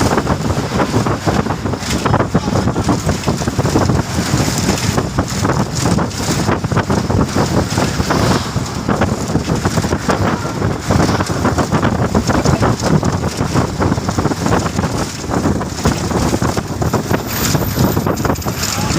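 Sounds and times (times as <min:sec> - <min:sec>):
road traffic noise: 0:00.0 - 0:18.9
wind buffeting microphone: 0:00.0 - 0:18.9.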